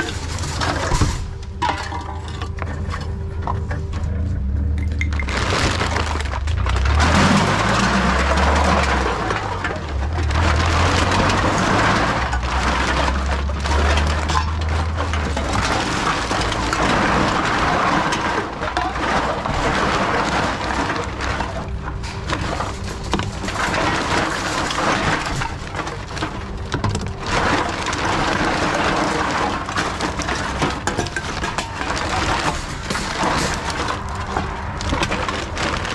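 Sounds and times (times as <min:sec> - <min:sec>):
cans and bottles rattling: 0:00.0 - 0:35.9
low machine hum: 0:00.0 - 0:35.9
plastic bag rustling: 0:00.0 - 0:35.9.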